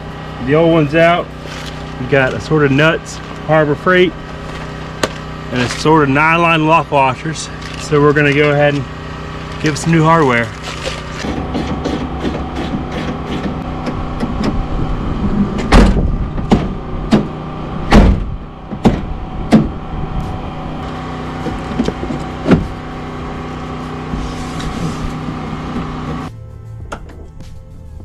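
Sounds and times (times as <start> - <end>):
mechanical hum: 0.0 - 26.3.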